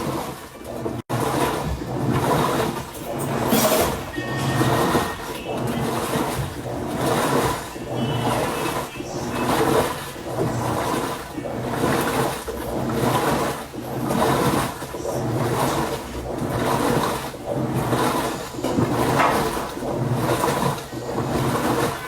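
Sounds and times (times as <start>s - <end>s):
washing machine agitating: 0.0s - 22.0s.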